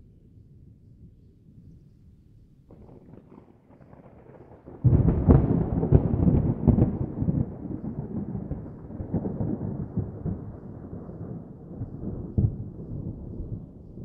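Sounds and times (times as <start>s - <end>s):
thunder crackles: 2.7s - 14.0s
thunder rumbling: 2.7s - 14.0s.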